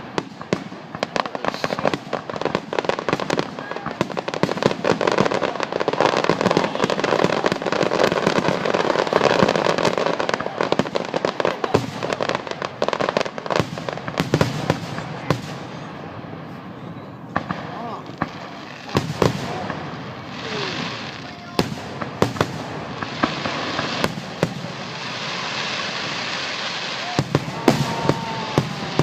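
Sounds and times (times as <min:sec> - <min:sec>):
fireworks popping and crackling: 0:00.0 - 0:29.0.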